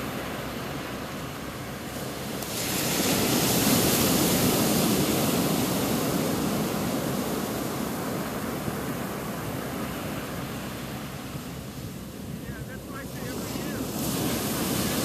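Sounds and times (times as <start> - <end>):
ocean wave breaking: 0.0 - 15.0.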